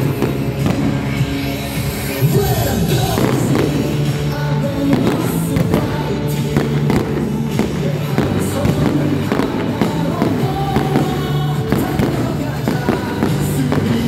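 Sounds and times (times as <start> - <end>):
fireworks banging and popping: 0.0 - 14.0
team cheer songs playing: 0.0 - 14.0.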